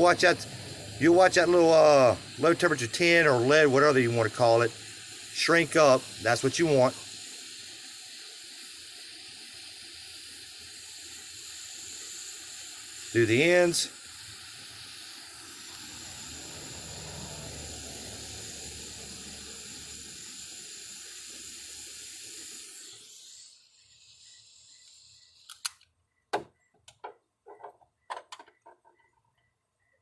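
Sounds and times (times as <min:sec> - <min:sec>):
torch flame hissing: 0:00.0 - 0:25.7.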